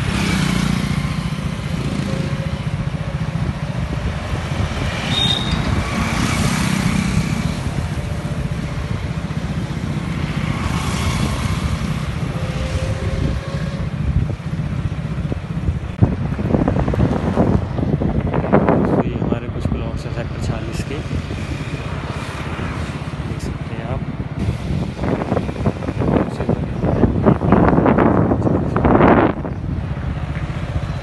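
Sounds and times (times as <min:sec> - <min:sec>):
engine and road rumble: 0:00.0 - 0:31.0
motorbikes and cars passing: 0:00.0 - 0:31.0.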